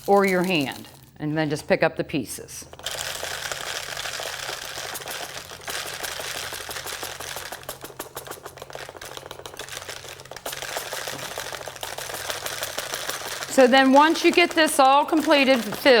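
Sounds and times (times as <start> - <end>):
seeds rattling into plastic bottle: 0.0 - 1.2, 2.6 - 16.0.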